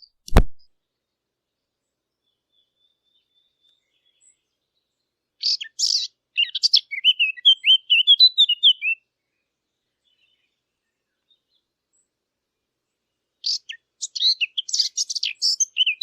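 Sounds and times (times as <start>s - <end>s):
warbler singing: 0.9s - 12.1s, 12.9s - 16.0s.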